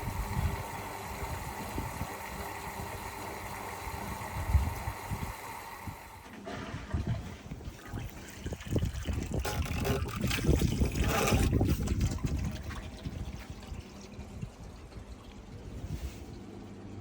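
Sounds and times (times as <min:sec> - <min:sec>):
water trickling into washing machine: 0:00.0 - 0:17.0.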